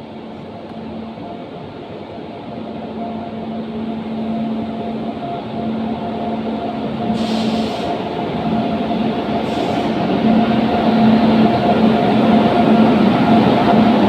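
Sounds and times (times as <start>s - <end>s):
locomotive humming: 0.0s - 14.0s.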